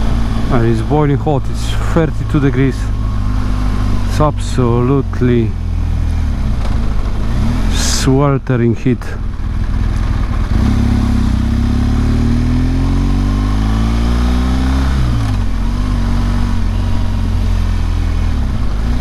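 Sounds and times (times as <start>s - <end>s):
motorcycle engine revving: 0.0s - 19.0s
road and wind noise: 0.0s - 19.0s.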